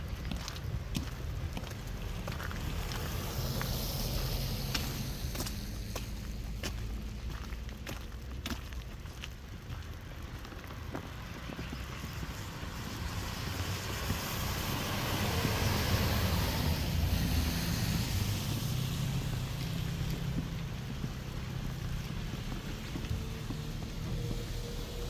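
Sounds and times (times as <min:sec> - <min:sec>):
car passing on snowy street: 0:00.0 - 0:25.0.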